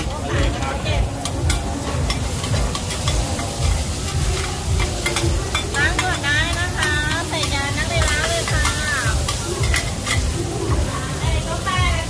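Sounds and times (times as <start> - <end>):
food sizzling in oil: 0.0 - 12.0
metal spatulas scraping a pan: 0.4 - 10.7.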